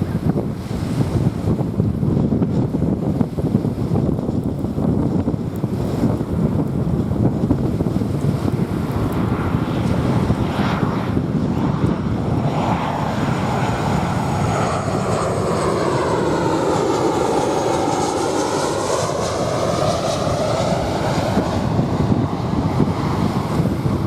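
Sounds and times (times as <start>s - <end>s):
jet airliner passing over: 0.0s - 24.0s.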